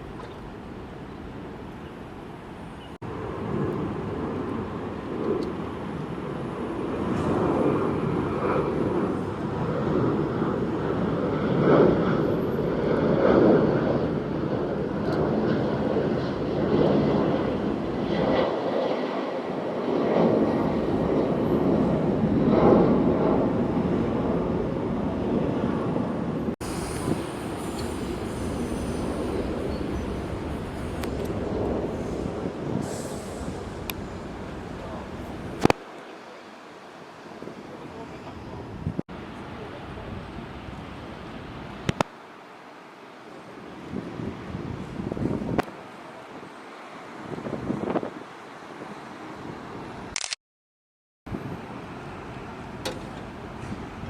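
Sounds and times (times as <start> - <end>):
jet airliner engines roaring: 0.0 - 50.2, 51.3 - 54.0.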